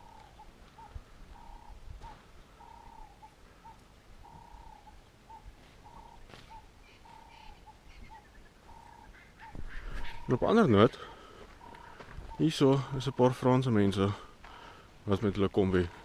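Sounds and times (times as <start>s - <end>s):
faint animal call: 0.0s - 13.3s.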